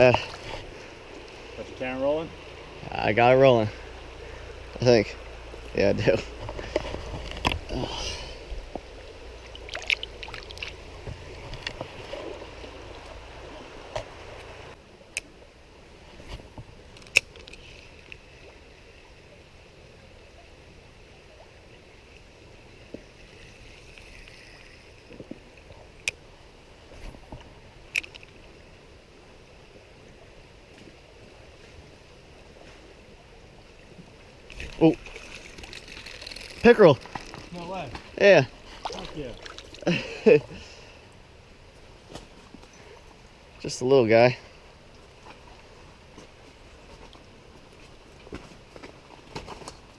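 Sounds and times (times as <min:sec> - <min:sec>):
stream water rushing: 0:00.0 - 0:49.9.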